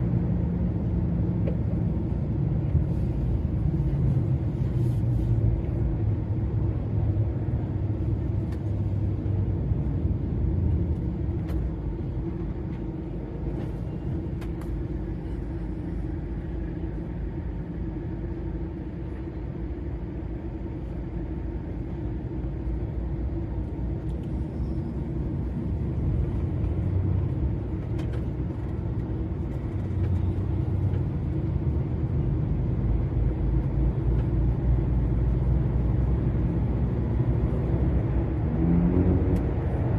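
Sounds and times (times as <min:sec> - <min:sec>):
lorry diesel engine drone: 0:00.0 - 0:39.9.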